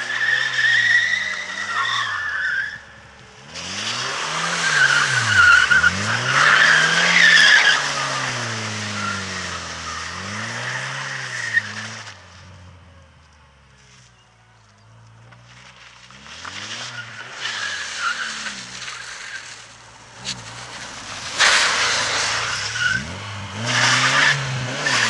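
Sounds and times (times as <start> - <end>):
tyres squealing and skidding: 0.0 - 12.4, 15.5 - 25.0
car engine revving: 0.0 - 25.0.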